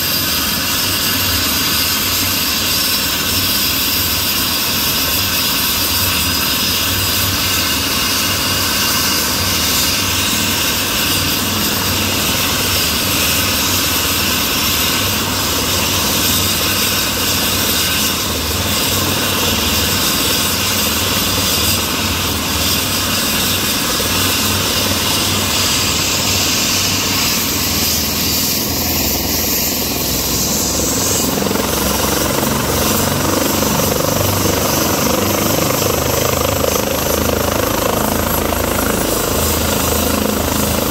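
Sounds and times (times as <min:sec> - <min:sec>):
helicopter rotor beating: 0:00.0 - 0:40.9
helicopter turbine engines whining: 0:00.0 - 0:40.9.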